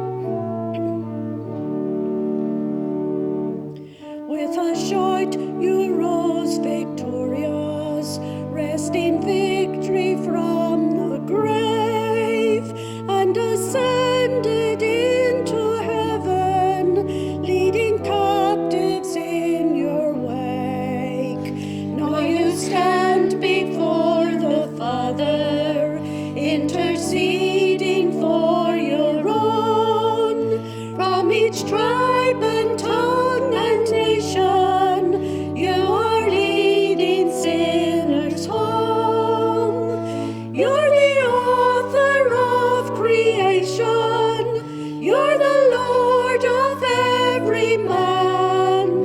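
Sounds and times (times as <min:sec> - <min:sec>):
organ chords: 0:00.0 - 0:49.0
voices singing a hymn: 0:00.0 - 0:49.0.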